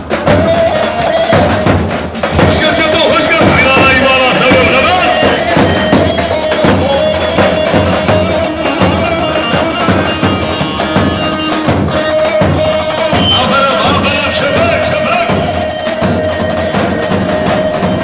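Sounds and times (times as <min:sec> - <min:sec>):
bass drum beating dance rhythm: 0:00.0 - 0:18.0
reed wind instrument melody: 0:00.0 - 0:18.0.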